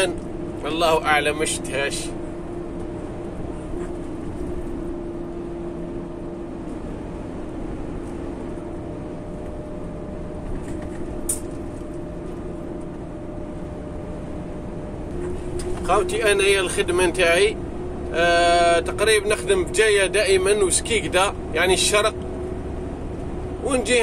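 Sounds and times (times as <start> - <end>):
road noise: 0.0 - 24.0
truck engine hum: 0.0 - 24.0.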